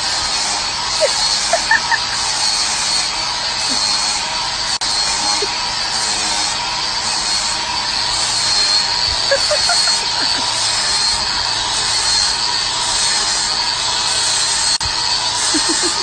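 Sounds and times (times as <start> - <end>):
angle grinder whining and grinding: 0.0 - 16.0.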